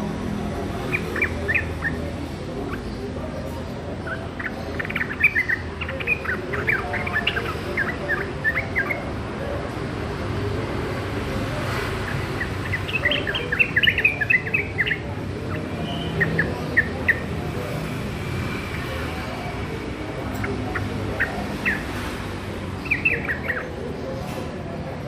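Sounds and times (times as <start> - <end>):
bird chirping song: 0.4 - 9.2, 11.9 - 24.3.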